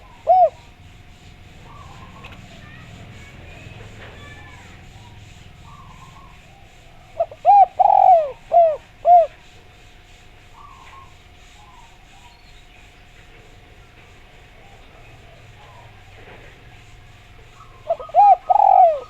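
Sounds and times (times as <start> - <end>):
dove cooing: 0.0 - 12.3, 13.8 - 19.0
birds chirping: 0.0 - 19.0.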